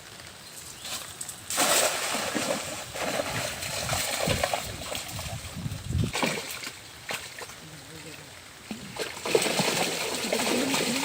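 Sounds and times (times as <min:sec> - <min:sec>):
water splashing and sloshing: 0:00.8 - 0:11.0.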